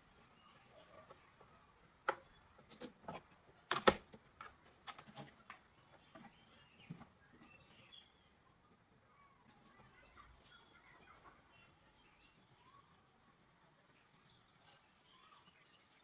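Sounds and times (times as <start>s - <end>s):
faint chirps: 0.0s - 2.6s, 5.7s - 16.0s.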